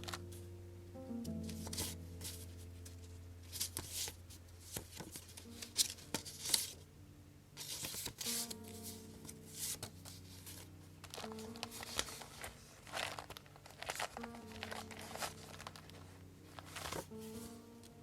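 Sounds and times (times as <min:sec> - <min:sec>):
quiet background music: 0:00.0 - 0:18.0
paper rustling and sliding: 0:01.4 - 0:06.8, 0:07.6 - 0:18.0.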